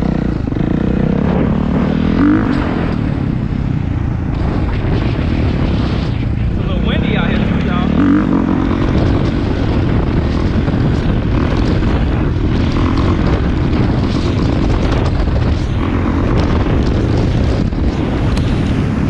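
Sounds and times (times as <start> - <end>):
motorcycle engine thumping: 0.0 - 19.0.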